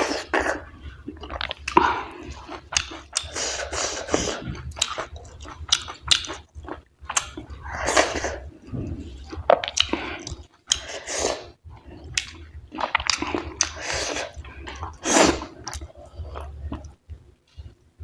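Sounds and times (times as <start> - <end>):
person chewing with mouth smacks: 0.0 - 17.8.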